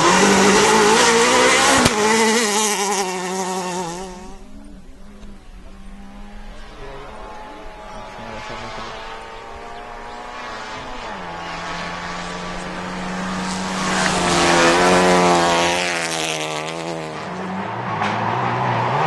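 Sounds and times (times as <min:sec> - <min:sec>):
rally car engine at high revs: 0:00.0 - 0:19.0.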